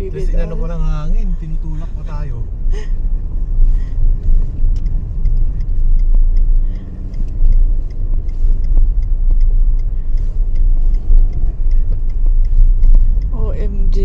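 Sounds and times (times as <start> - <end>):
car interior driving rumble: 0.0 - 14.0
light regular ticking: 0.0 - 14.0.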